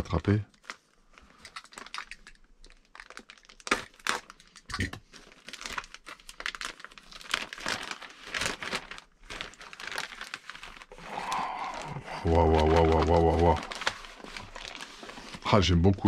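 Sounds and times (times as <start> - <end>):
plastic bags crinkling: 0.3 - 15.5.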